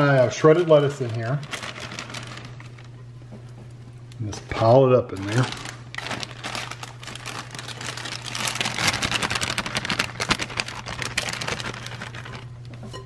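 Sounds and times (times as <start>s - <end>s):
lettuce rustling: 0.0s - 2.9s, 5.1s - 12.8s
plastic bag crinkling: 0.0s - 3.0s, 4.6s - 13.0s.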